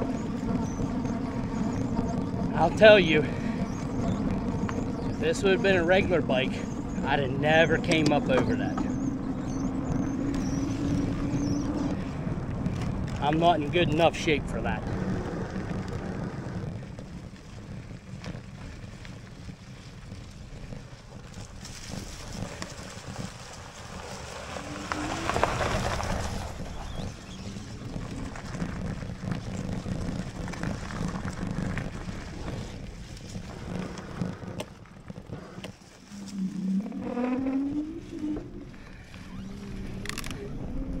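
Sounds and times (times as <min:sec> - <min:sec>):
bike rumbling on dirt trail: 0:00.0 - 0:41.0
wind on microphone: 0:00.0 - 0:41.0.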